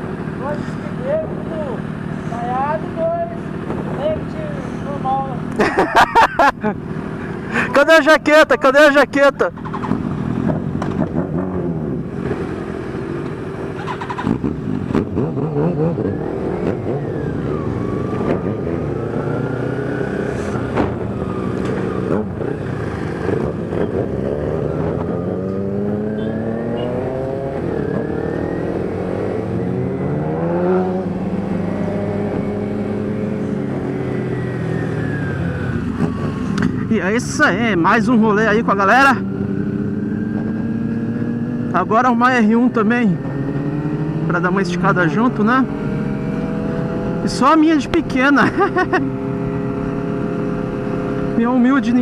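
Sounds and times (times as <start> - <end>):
motorcycle engines accelerating: 0.0 - 52.0.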